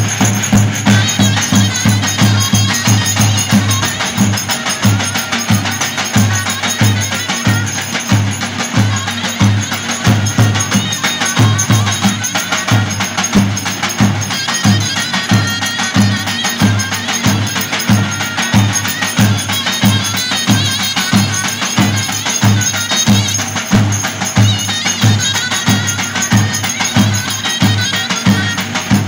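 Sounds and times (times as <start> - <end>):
folk melody: 0.0 - 29.0
quick clicking percussion: 0.0 - 29.0.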